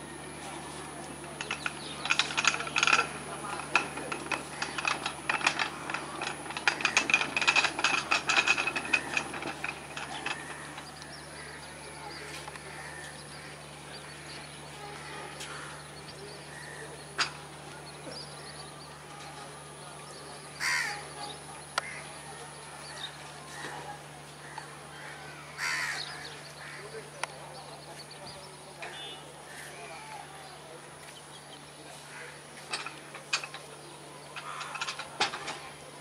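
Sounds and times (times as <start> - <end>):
train coaches clattering over rails: 0.0 - 36.0.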